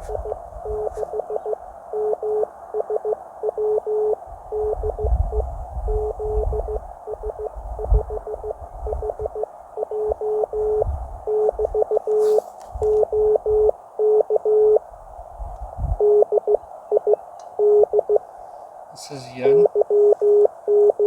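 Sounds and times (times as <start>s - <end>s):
morse code tone: 0.0s - 12.2s, 12.9s - 14.8s, 16.0s - 18.2s, 19.6s - 21.0s.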